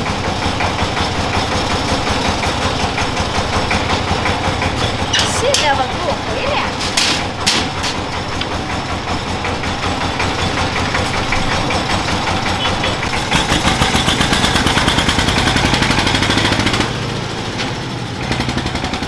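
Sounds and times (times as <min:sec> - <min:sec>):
diesel truck engine knocking: 0:00.0 - 0:19.0.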